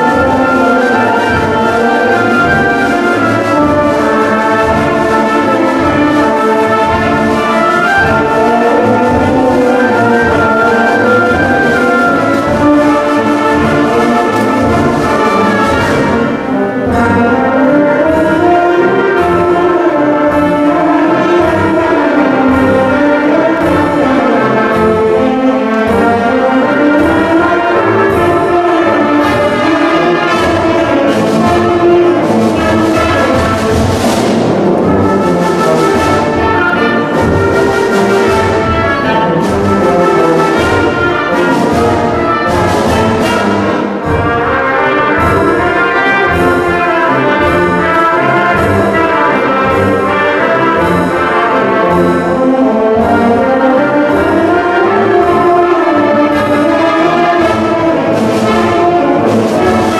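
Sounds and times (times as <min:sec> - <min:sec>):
concert band playing: 0:00.0 - 0:59.9.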